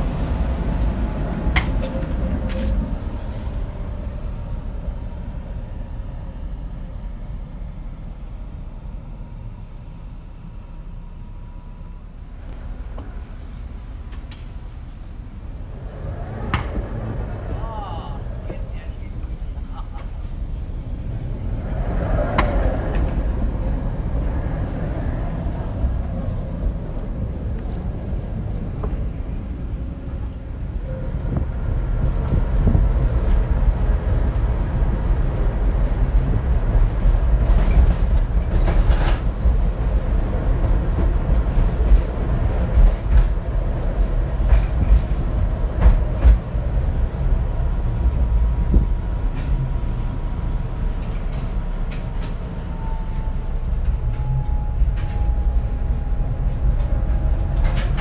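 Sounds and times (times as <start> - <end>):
clacks of tram wheels: 0.0 - 4.6, 12.4 - 58.0
tram wheels and motors rumbling: 0.0 - 58.0.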